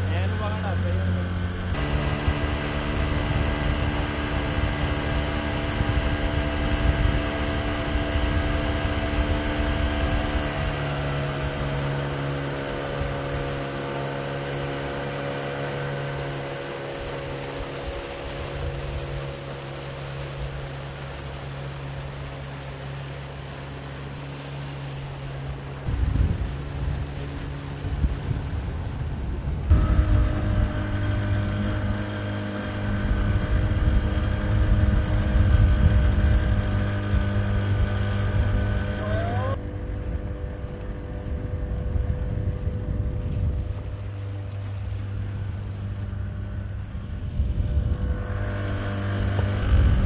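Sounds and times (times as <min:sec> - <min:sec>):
outboard motor running: 0:00.0 - 0:50.0
water rushing from wake: 0:00.0 - 0:50.0.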